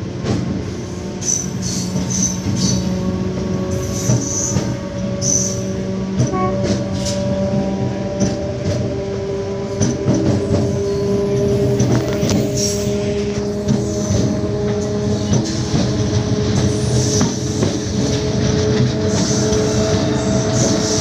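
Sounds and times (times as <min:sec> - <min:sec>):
electric train drive hum: 0:00.0 - 0:21.0
wheel-on-rail rumble: 0:00.0 - 0:21.0.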